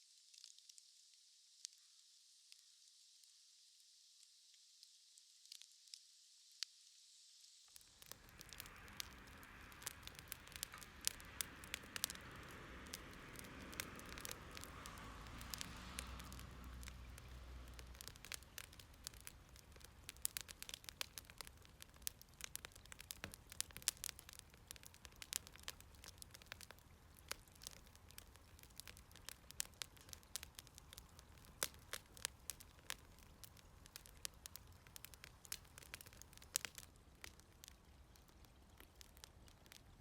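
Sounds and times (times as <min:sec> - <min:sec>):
firewood crackling and popping: 0:07.7 - 0:40.0.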